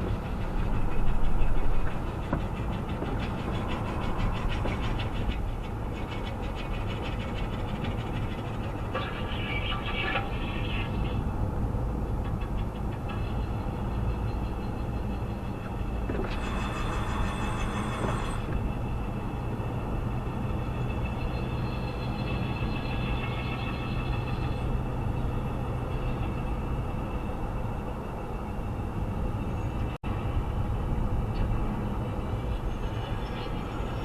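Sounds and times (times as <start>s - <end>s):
pulsing brake squeal: 0.0s - 11.3s, 12.4s - 29.9s
car road rumble: 0.0s - 34.0s.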